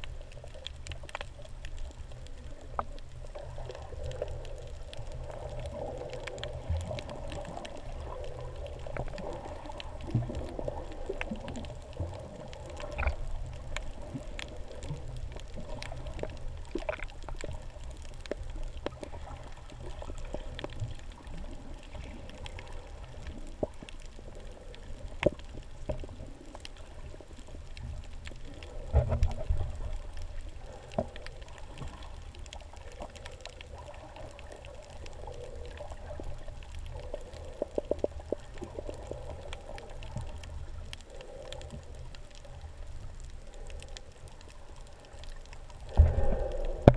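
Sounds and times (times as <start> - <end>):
small clicks and crackles: 0.0 - 46.9
underwater rumble: 0.0 - 46.9.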